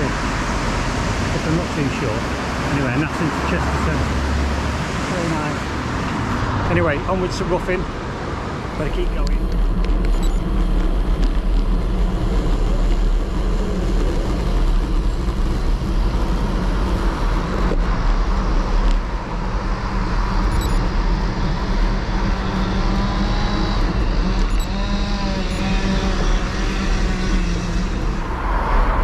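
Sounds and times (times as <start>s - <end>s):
tyres humming on tarmac: 0.0s - 29.0s
wind rush on microphone: 0.0s - 29.0s.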